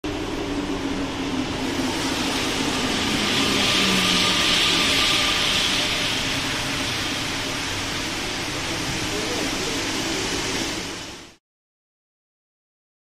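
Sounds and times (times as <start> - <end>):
metro train rolling in: 0.0 - 11.4.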